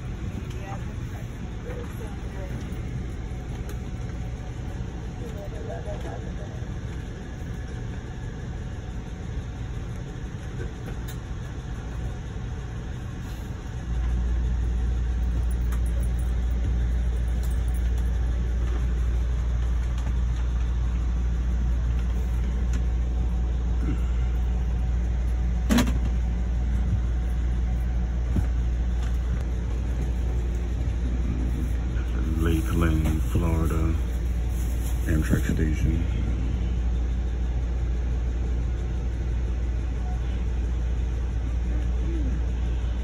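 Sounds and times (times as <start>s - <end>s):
train car rumble and hum: 0.0s - 43.0s.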